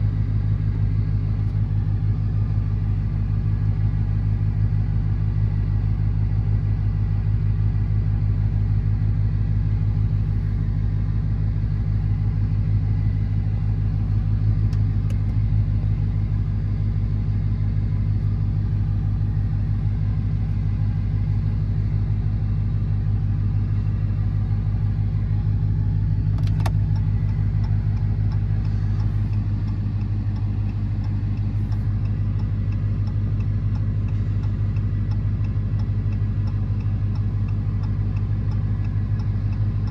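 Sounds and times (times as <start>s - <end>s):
car engine and tyres droning: 0.0s - 39.9s.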